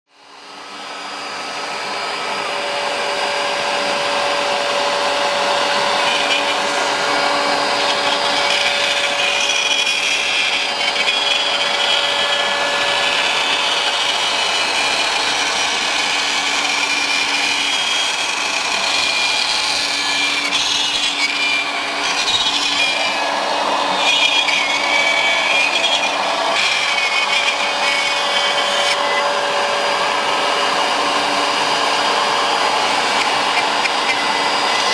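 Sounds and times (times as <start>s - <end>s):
router cutting into wood: 0.1s - 34.9s.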